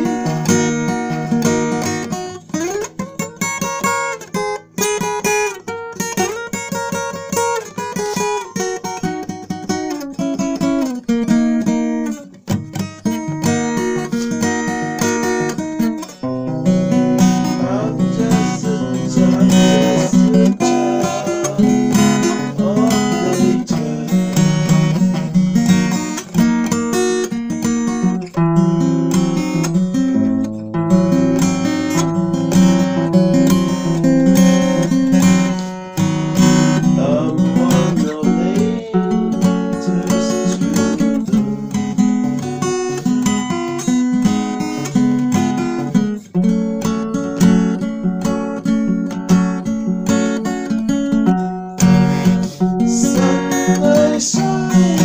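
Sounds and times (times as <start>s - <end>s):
acoustic guitar strumming and plucking: 0.0s - 55.0s.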